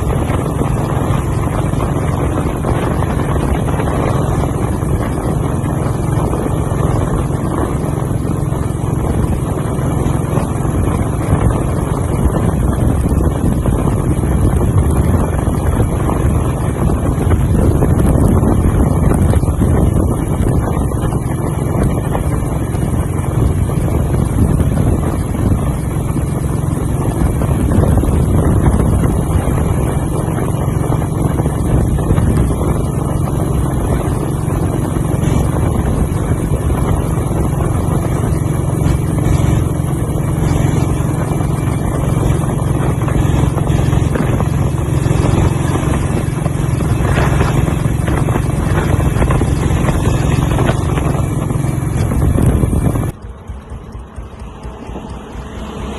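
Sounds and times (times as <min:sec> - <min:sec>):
motorcycle engine running: 0:00.0 - 0:55.9
wind noise on microphone: 0:00.0 - 0:55.9.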